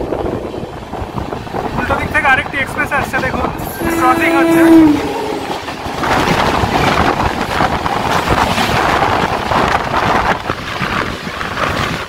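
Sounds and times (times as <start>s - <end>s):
wind on microphone: 0.0s - 12.0s
train coaches rushing past: 0.1s - 12.0s.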